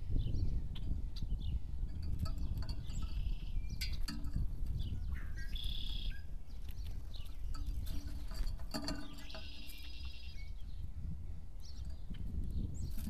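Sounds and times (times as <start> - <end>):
high bird trills: 0.0 - 11.0
songbirds calling: 0.0 - 13.0.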